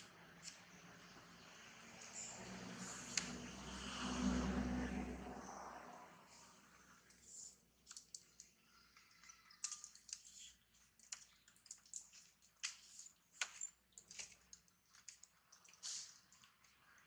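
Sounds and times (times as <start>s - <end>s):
faint sharp clicks and crackles: 0.0s - 3.7s, 6.9s - 17.0s.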